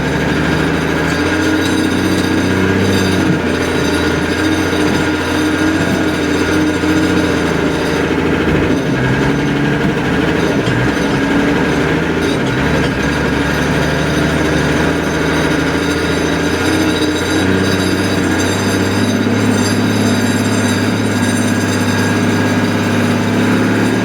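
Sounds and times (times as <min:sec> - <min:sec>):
large engine running with rattle: 0:00.0 - 0:24.0.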